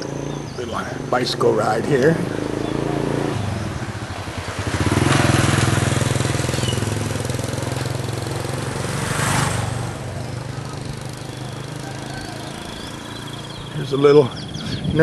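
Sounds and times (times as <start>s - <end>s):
small vehicle engine passing: 0.0s - 14.6s.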